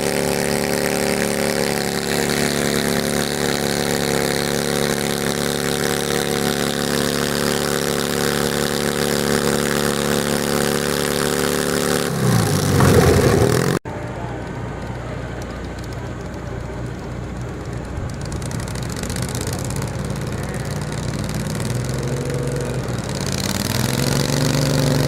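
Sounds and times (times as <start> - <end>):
garden tractor engine revving: 0.0 - 25.0.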